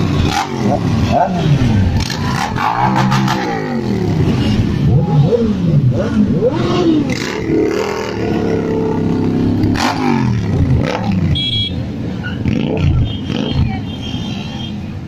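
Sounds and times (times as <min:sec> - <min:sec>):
motorcycles revving: 0:00.0 - 0:15.0.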